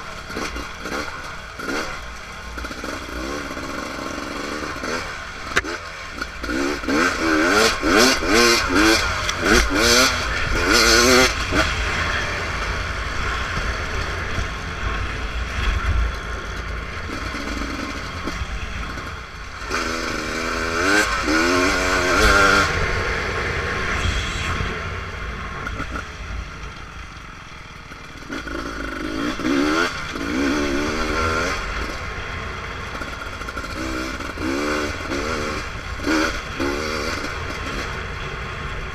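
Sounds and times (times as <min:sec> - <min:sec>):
dirt bike engine revving: 0:00.0 - 0:38.8.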